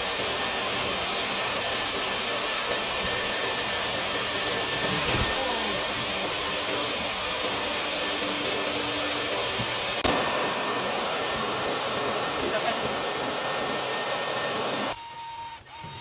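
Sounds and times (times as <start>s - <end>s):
vacuum running with rushing air: 0.0s - 15.0s.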